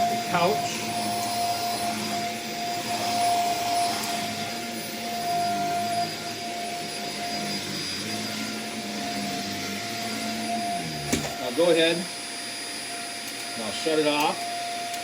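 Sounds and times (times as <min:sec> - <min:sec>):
vacuum cleaner high whine: 0:00.0 - 0:15.0.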